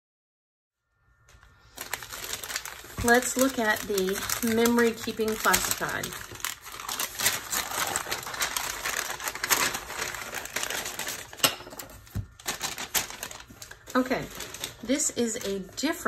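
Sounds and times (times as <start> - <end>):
packaging rustling and crinkling: 1.4 - 16.0.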